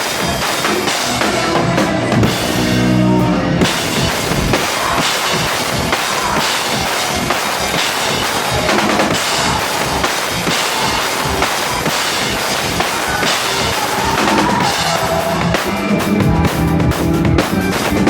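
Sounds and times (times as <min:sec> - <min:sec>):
live rock music: 0:00.0 - 0:18.0.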